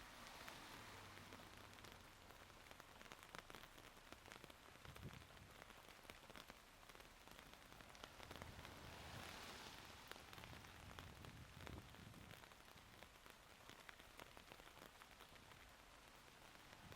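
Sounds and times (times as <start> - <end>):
raindrops ticking close by: 0.0 - 16.9
soft steady rain: 0.0 - 16.9.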